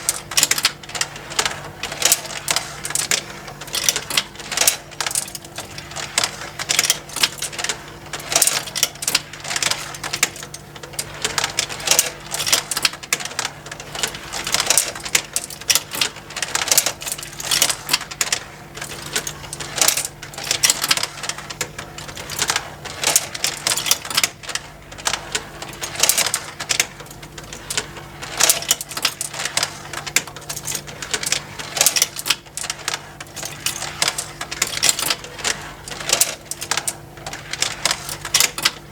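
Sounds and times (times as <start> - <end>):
faint motor hum: 0.0 - 38.9.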